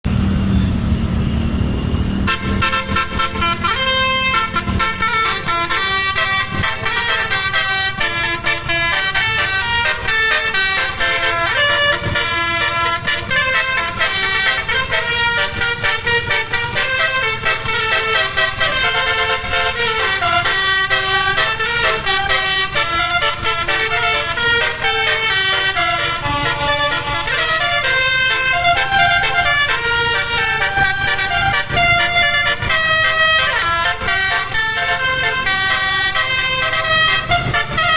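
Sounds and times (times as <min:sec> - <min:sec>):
low vehicle rumble: 0:00.0 - 0:37.9
bus air horn melody: 0:02.2 - 0:37.9.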